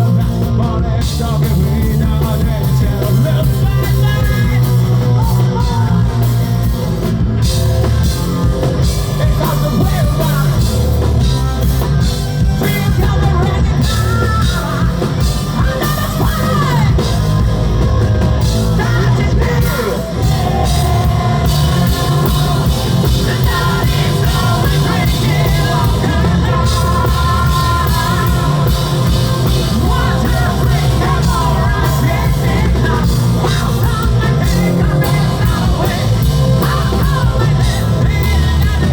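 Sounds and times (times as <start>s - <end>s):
distorted guitars: 0.0s - 38.9s
drum kit: 0.0s - 38.9s
electric bass: 0.0s - 38.9s
man singing and shouting: 0.0s - 38.9s.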